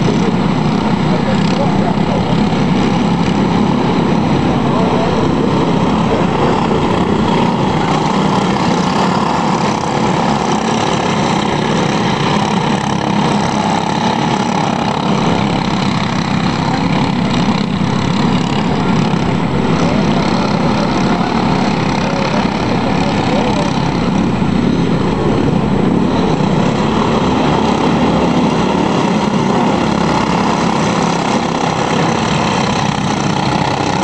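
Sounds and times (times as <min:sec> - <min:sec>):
racing kart engines buzzing: 0:00.0 - 0:34.0.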